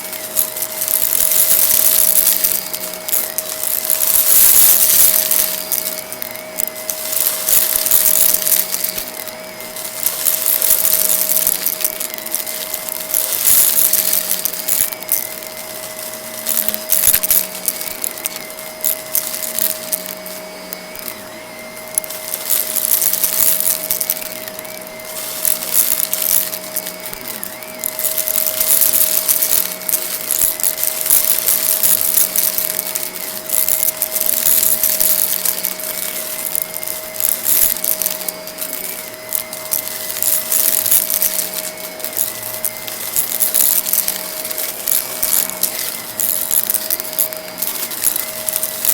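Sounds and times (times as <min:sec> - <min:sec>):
debris rattling through vacuum: 0:00.0 - 0:48.9
vacuum cleaner whine: 0:00.0 - 0:48.9.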